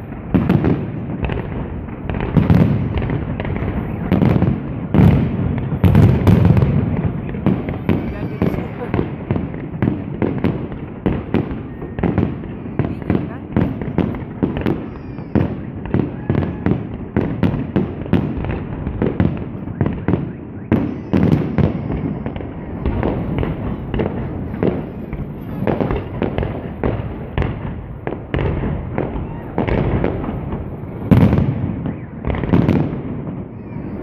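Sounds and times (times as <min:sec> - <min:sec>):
fireworks bursting overhead: 0:00.0 - 0:34.0.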